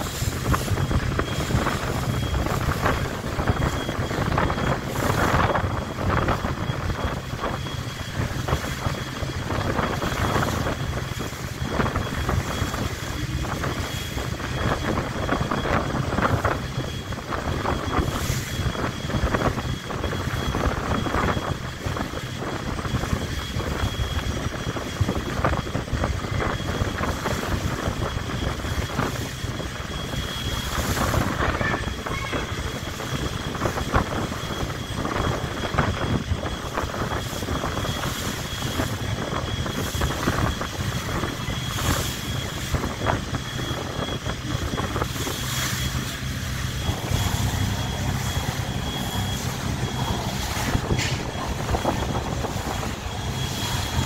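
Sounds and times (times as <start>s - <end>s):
boat engine droning: 0.0s - 54.0s
wind gusting on microphone: 0.0s - 54.0s.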